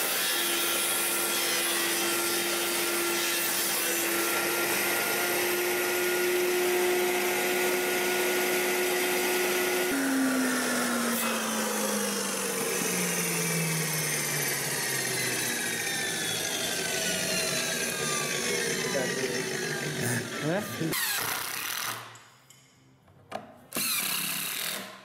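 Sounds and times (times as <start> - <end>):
circular saw cutting timber: 0.0 - 22.2, 23.8 - 25.0.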